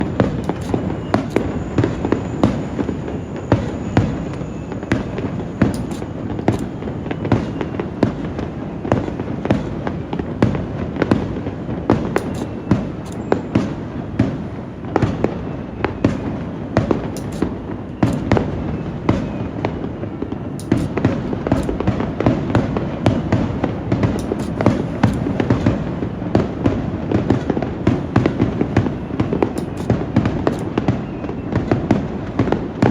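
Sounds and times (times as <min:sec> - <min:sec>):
firework shells bursting: 0:00.0 - 0:31.6
low rumble of explosions: 0:00.0 - 0:32.9.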